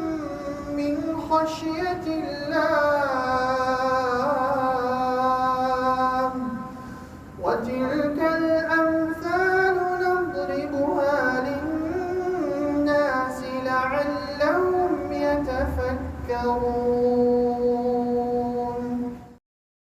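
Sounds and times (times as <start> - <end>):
person vocalising wordless melody: 0.0 - 19.4.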